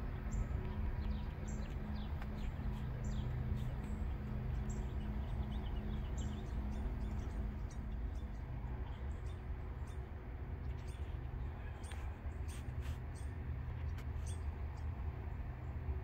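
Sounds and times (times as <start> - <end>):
low hum and rumble: 0.0 - 16.0
small birds chirping: 0.2 - 14.5.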